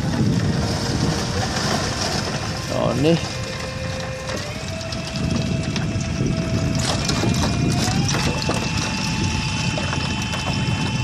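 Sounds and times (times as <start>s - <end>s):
outboard motor whine: 0.0s - 11.0s
water rushing along hull: 0.0s - 11.0s.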